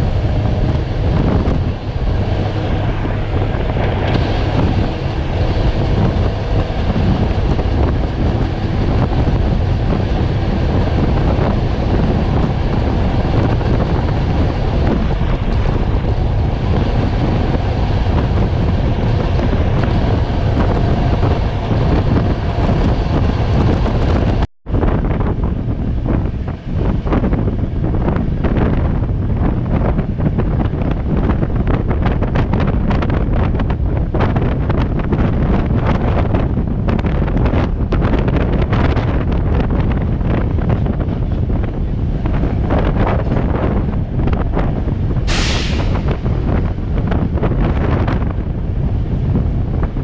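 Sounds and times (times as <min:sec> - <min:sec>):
train running noise: 0:00.0 - 0:50.0
wind rushing over microphone: 0:00.0 - 0:50.0.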